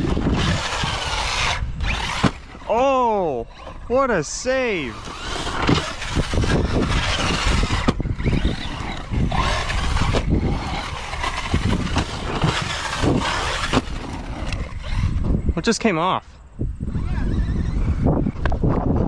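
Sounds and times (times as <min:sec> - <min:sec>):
toy truck motor and tyres rushing: 0:00.0 - 0:15.7, 0:16.4 - 0:19.0.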